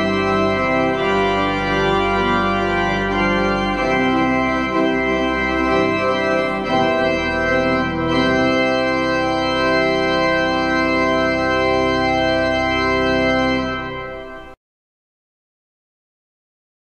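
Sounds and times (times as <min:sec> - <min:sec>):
organ chords: 0:00.0 - 0:14.6.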